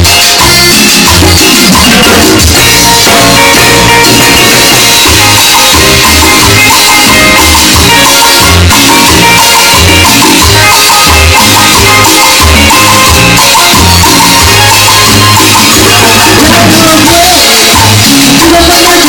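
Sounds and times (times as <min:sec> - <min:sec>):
loud live salsa music: 0:00.0 - 0:19.0.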